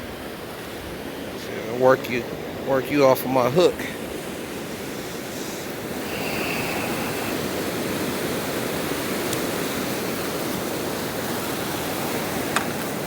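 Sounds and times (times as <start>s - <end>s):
breaking waves on a beach: 0.0s - 13.0s.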